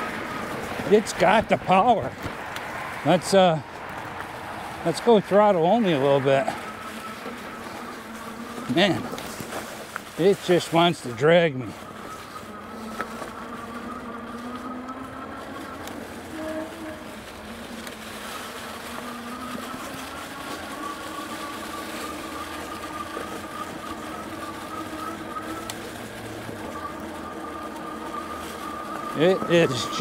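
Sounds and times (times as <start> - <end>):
electric motor whining: 0.0 - 30.0
tires rolling on dirt trail: 0.0 - 30.0.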